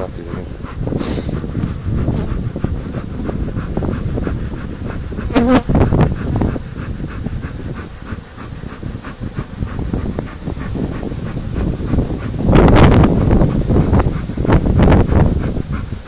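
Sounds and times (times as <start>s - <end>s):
bee flying close: 0.0s - 16.0s
honeybees buzzing: 0.0s - 16.0s.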